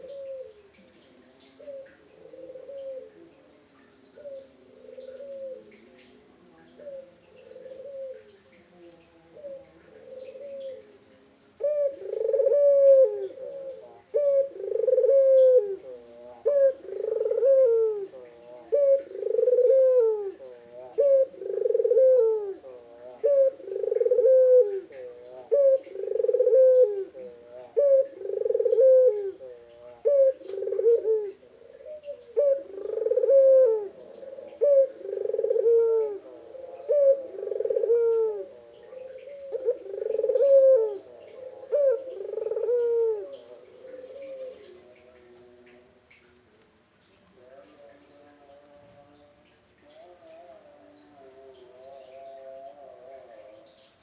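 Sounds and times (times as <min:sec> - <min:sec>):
dove cooing: 0:00.0 - 0:11.0, 0:11.6 - 0:45.8, 0:47.3 - 0:54.0.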